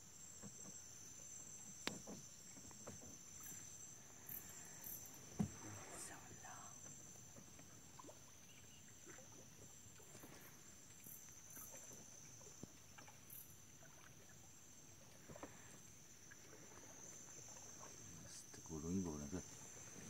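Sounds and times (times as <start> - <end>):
insects chirring: 0.0 - 20.0
water lapping around boat: 0.0 - 20.0.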